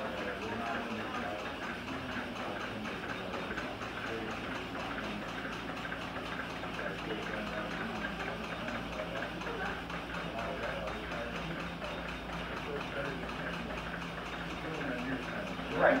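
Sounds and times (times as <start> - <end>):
distant voices murmuring: 0.0 - 16.0
fast regular ticking: 0.0 - 16.0
indoor background hum: 0.0 - 16.0.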